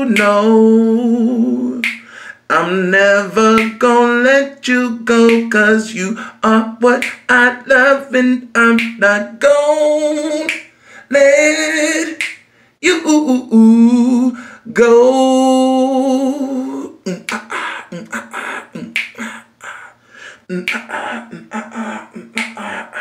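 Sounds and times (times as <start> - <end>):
person singing unaccompanied: 0.0 - 23.0.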